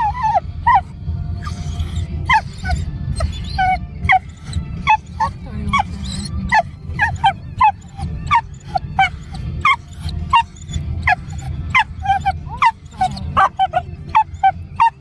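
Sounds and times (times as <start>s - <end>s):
dog yelping and whining: 0.0s - 15.0s
steady low rumble: 0.0s - 15.0s.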